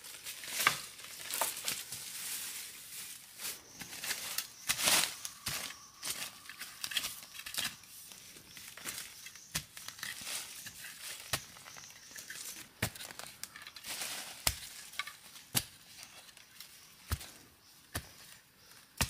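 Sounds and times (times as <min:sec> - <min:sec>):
footsteps crunching through leaves: 0:00.0 - 0:16.1.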